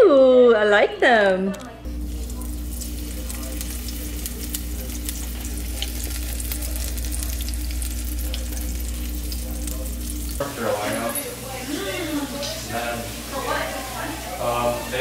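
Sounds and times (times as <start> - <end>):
steady low hum: 1.5 - 15.0
sauce sizzling in a saucepan: 1.9 - 15.0.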